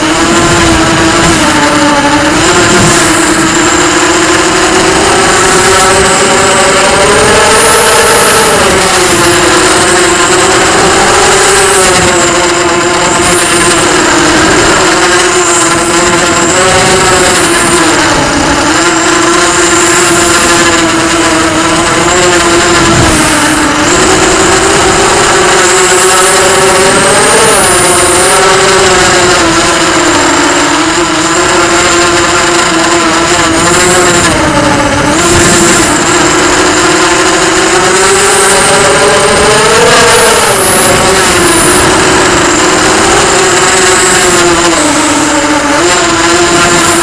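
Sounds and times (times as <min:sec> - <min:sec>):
drone motors buzzing whine: 0:00.0 - 0:47.0.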